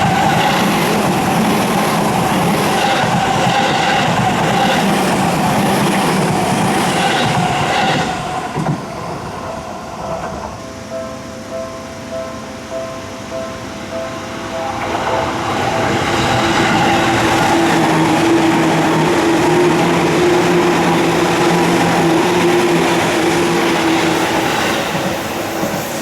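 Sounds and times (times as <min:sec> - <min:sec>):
train passing with wheel clatter: 0:00.0 - 0:26.0.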